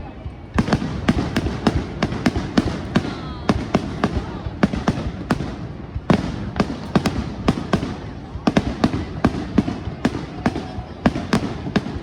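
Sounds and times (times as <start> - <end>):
fireworks bangs: 0.0 - 12.0
low rumble of echoing bursts: 0.0 - 12.0.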